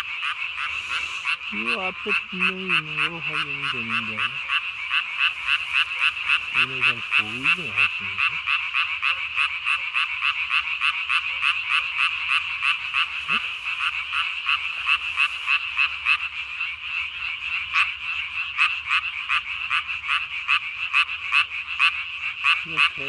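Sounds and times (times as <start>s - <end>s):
tree frog croaking: 0.0s - 23.0s.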